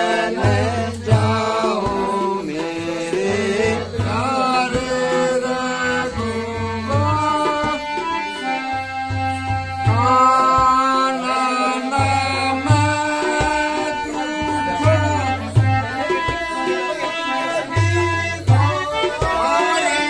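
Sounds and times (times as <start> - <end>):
harmonium: 0.0 - 20.0
man singing: 0.0 - 20.0
tabla drum strokes: 0.0 - 20.0.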